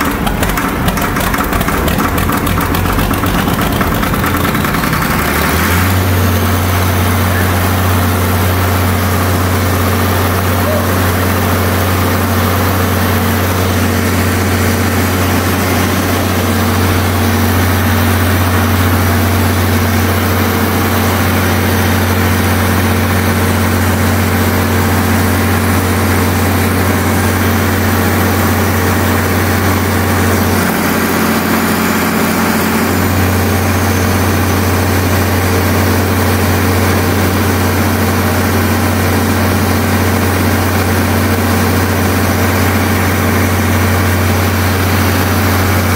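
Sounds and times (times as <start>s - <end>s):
diesel generator running: 0.0s - 45.9s.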